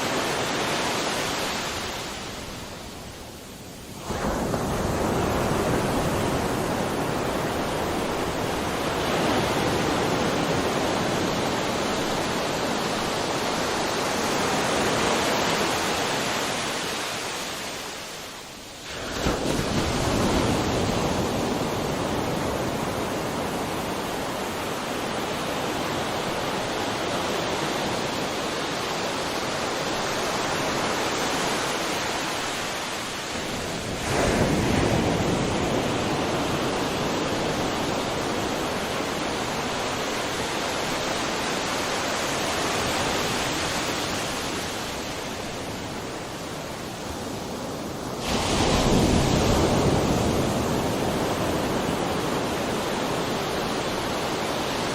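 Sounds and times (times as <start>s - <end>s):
sea surf washing onto shore: 0.0s - 54.9s.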